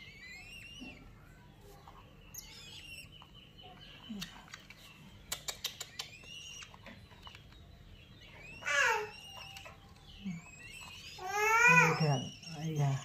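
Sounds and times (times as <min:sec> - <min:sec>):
chicks begging chirps: 0:00.0 - 0:13.0.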